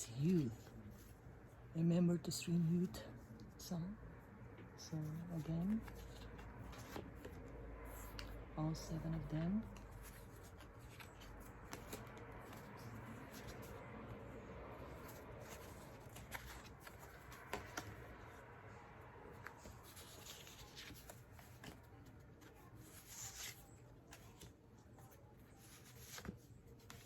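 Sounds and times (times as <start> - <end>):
paper cards rustling: 4.8 - 27.0.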